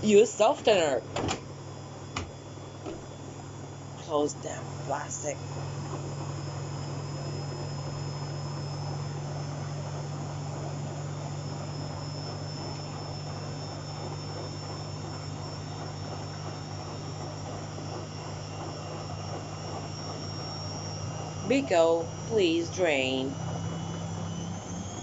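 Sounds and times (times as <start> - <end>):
faint high whine: 0.0 - 25.0
washing machine spinning: 0.0 - 25.0.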